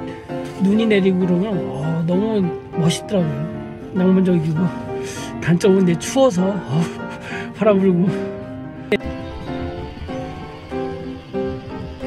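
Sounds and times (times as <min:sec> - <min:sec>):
plucked instrument music: 0:00.0 - 0:12.0.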